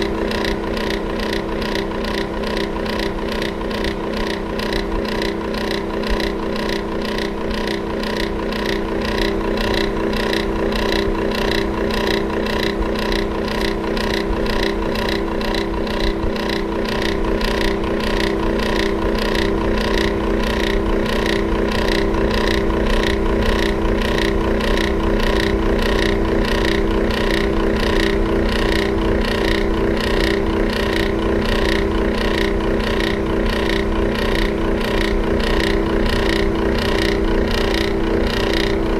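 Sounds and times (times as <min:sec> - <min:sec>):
electric fan whirring: 0:00.0 - 0:38.9.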